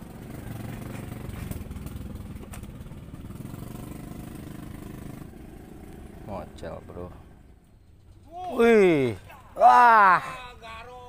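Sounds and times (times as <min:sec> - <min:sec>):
small engine running: 0:00.0 - 0:09.1.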